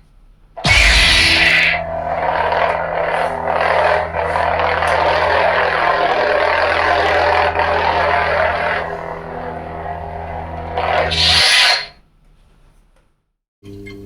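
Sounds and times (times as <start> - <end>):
lightsaber electric hum: 0.6 - 11.9
lightsaber swing sounds: 0.6 - 11.9.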